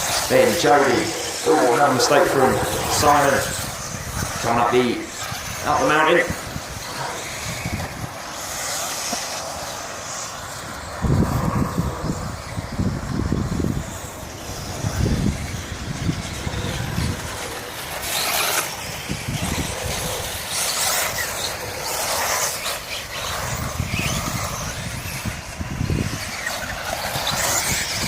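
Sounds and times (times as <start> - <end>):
radio-controlled buggies racing: 0.0 - 28.0.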